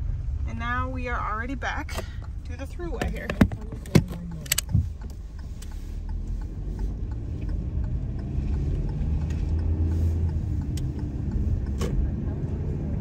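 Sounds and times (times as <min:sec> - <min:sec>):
road noise: 0:00.0 - 0:13.0
car engine accelerating: 0:01.5 - 0:13.0.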